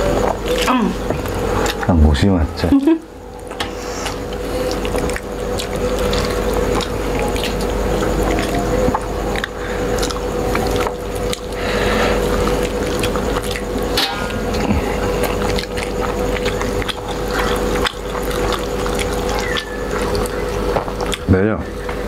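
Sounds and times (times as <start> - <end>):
chewing and lip-smacking: 0.0 - 22.0
steady low hum: 0.0 - 22.0.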